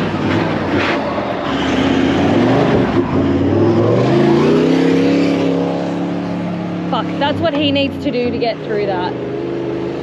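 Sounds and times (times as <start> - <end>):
vehicle engine revving under load: 0.0 - 10.0.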